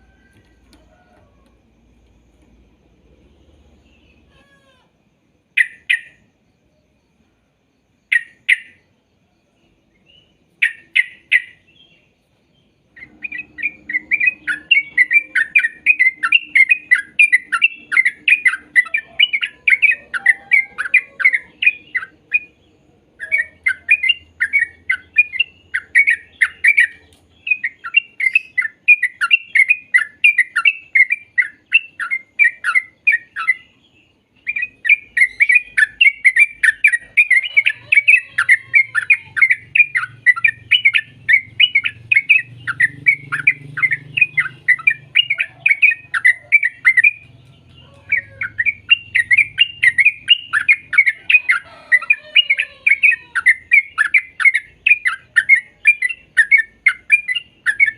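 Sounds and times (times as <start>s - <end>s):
bird singing rapid chattering notes: 5.6s - 6.3s, 10.0s - 57.9s.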